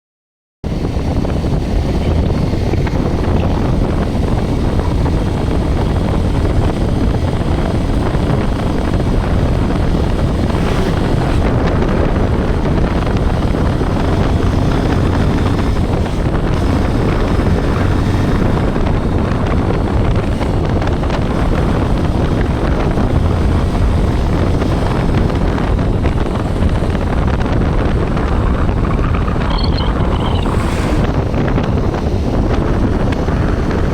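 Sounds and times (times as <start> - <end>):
wind buffeting microphone: 0.6 - 33.9
motorcycle engine running: 0.7 - 33.9.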